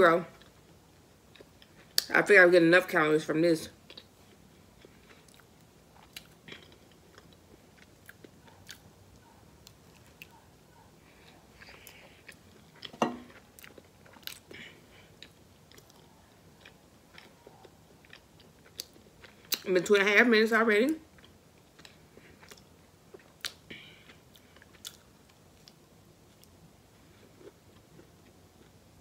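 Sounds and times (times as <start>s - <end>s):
person chewing food: 0.4s - 2.0s, 3.8s - 19.6s, 21.1s - 29.0s.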